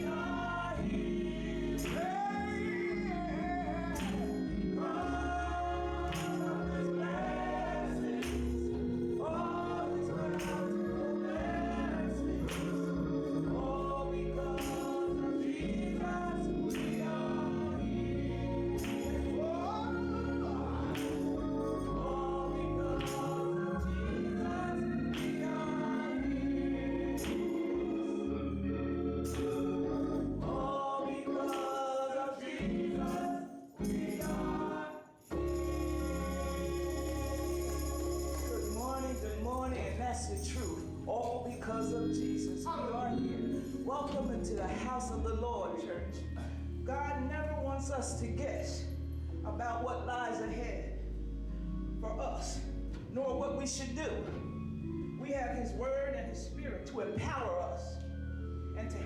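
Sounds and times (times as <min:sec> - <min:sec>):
gospel choir singing: 0:00.0 - 0:59.0.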